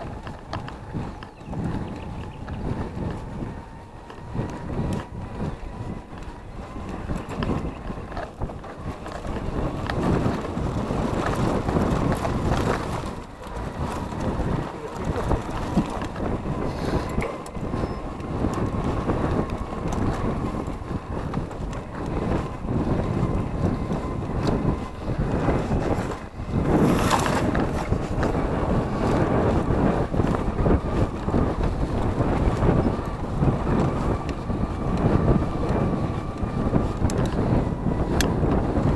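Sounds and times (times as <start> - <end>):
bike rattling over bumps: 0.0 - 38.9
bike tyre rumble: 0.0 - 38.9
wind buffeting microphone: 0.0 - 38.9.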